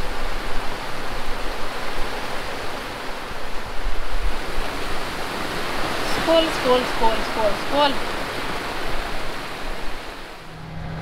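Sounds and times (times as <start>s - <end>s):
rain: 0.0s - 11.0s
sea water rushing: 0.0s - 11.0s
wind: 0.0s - 11.0s.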